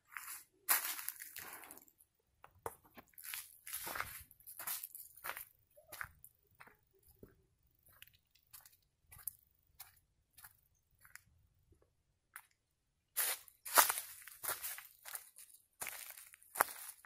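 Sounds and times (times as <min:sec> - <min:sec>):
footsteps crunching on loose ground: 0:00.0 - 0:01.9, 0:02.6 - 0:11.3, 0:13.2 - 0:17.0.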